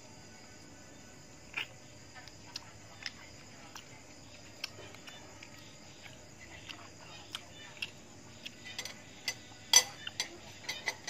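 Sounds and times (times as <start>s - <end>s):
crickets chirring: 0.0s - 11.0s
chewing: 1.5s - 11.0s.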